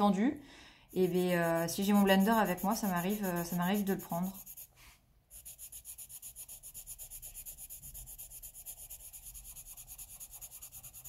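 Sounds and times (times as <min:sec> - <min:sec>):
pencil scratching on paper: 0:00.9 - 0:11.0.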